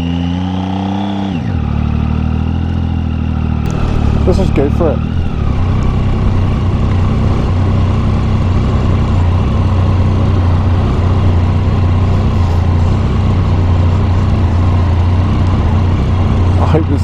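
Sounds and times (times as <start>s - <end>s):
motorcycle engine humming: 1.5s - 17.0s.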